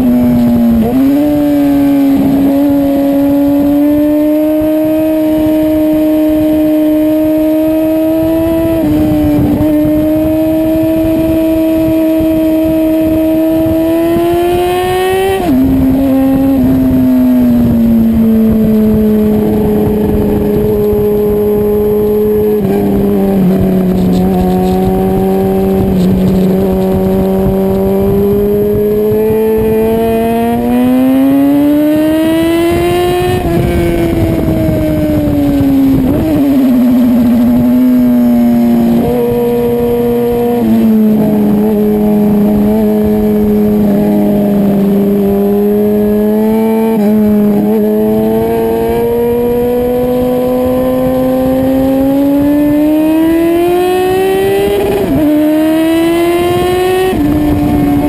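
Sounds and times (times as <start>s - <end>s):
motorcycle engine at high revs: 0.0s - 58.0s
wind rushing: 0.2s - 58.0s.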